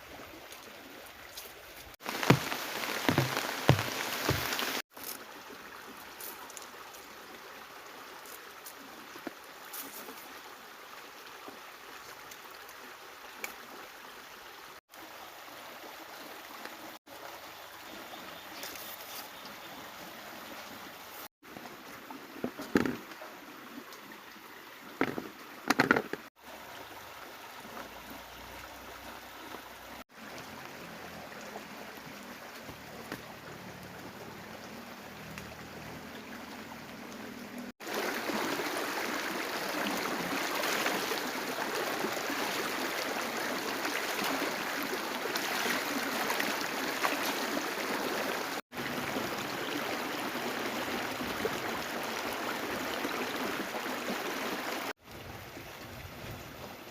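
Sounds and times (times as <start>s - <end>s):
water rushing: 1.9s - 56.9s.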